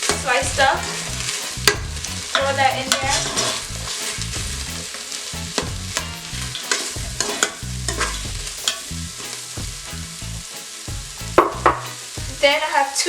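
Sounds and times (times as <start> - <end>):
onion sizzling in hot oil: 0.0 - 13.0
utensil scraping pot: 0.0 - 13.0.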